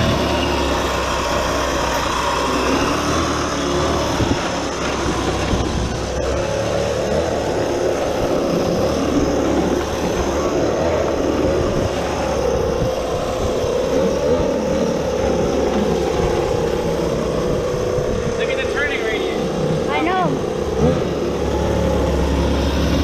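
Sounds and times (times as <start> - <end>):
small go-kart engine running: 0.0 - 23.0.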